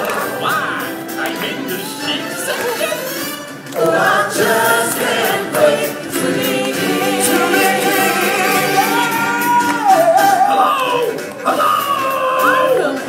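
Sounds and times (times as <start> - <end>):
group of voices singing: 0.0 - 13.0
live stage-show music: 0.0 - 13.0.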